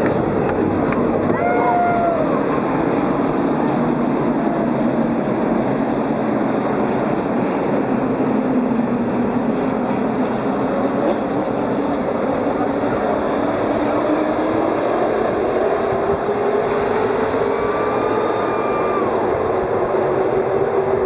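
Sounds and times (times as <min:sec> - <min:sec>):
race truck engines droning: 0:00.0 - 0:21.0.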